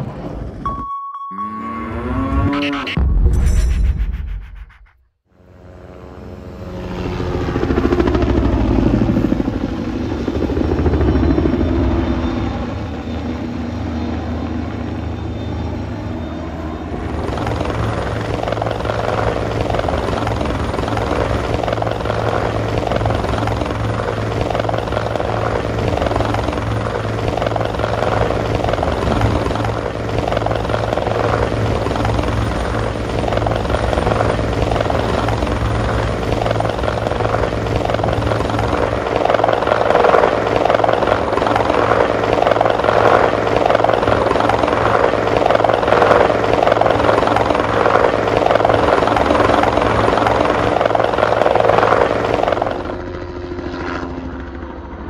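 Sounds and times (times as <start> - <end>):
helicopter engine noise: 1.8 - 55.0
helicopter rotor beating: 2.0 - 55.0.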